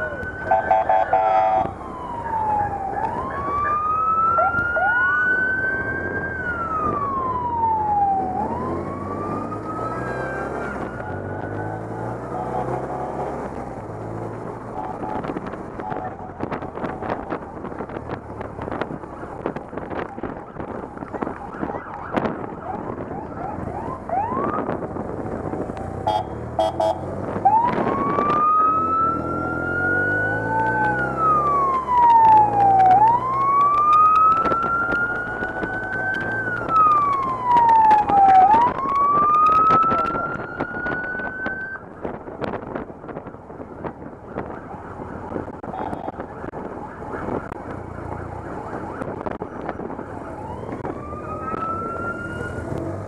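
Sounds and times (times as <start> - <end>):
motorcycle engines: 0.0 - 53.0
police motorcycle siren wailing: 0.0 - 53.0.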